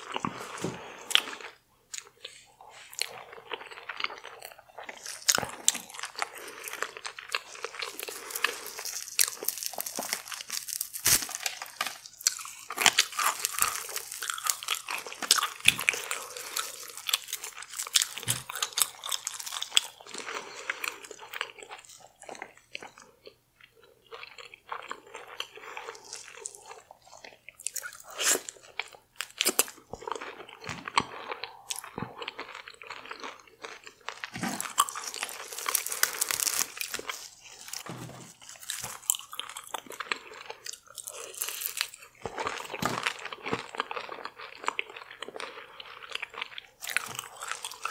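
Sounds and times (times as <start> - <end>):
wet chewing and crunching: 0.0 - 47.9.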